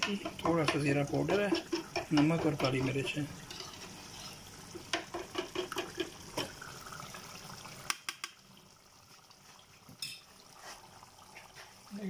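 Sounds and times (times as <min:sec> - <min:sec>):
faint wet bubbling of simmering food: 0:00.0 - 0:12.0.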